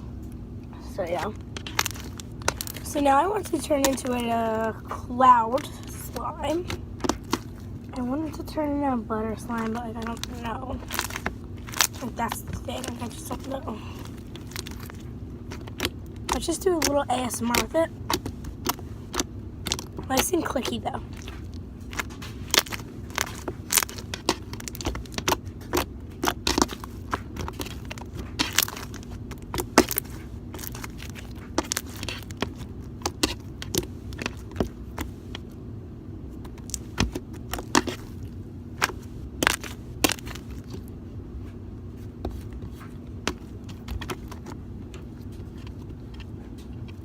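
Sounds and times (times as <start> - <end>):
low hum: 0.0 - 47.0.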